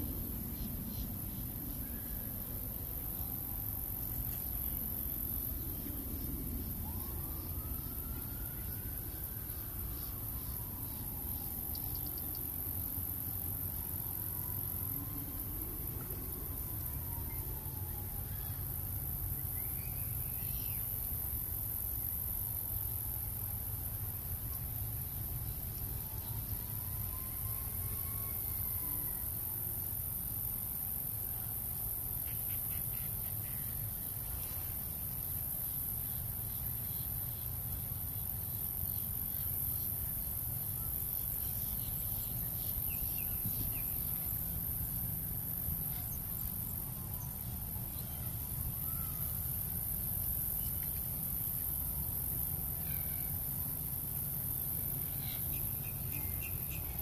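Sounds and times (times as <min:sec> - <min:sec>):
high-pitched insect drone: 0:00.0 - 0:57.0.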